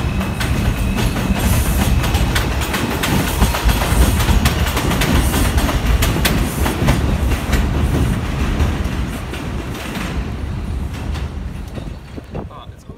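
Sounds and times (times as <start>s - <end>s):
train wheels clattering over rails: 0.0s - 12.6s.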